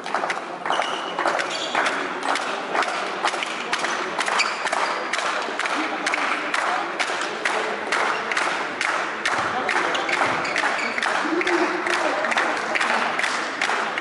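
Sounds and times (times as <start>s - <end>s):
crowd noise: 0.0s - 14.0s
spectators clapping rhythmically: 0.0s - 14.0s.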